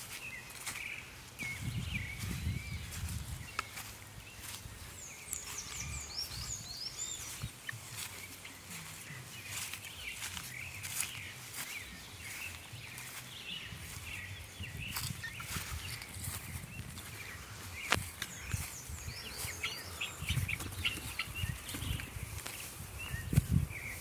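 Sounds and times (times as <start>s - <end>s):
chicks peeping: 0.0s - 24.0s
footsteps rustling through grass: 0.0s - 24.0s.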